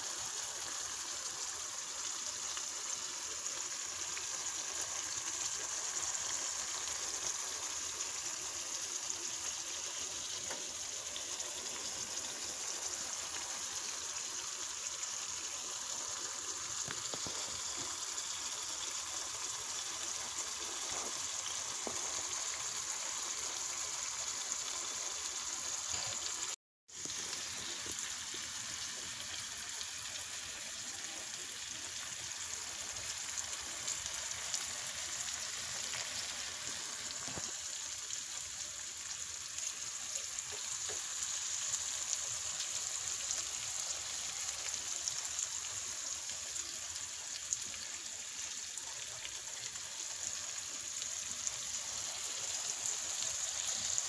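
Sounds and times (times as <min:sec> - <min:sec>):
shrimp sizzling in butter: 0:00.0 - 0:54.0.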